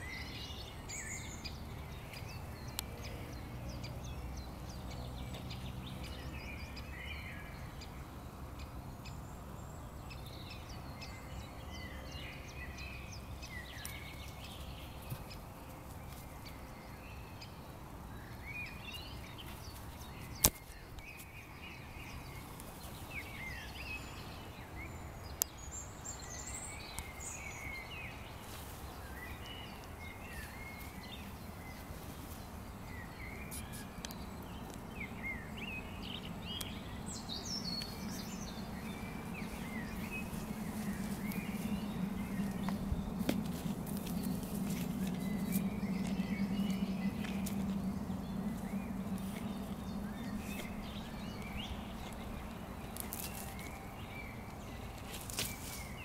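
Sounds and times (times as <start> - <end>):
birds chirping: 0.0 - 56.0
low steady hum: 0.0 - 56.0.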